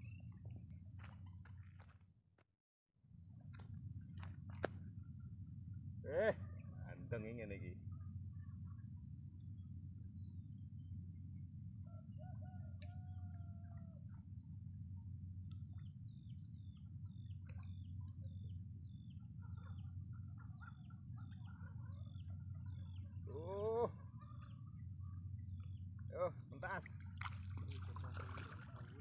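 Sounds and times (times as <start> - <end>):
steady low rumble: 0.0 - 2.0, 3.1 - 29.0.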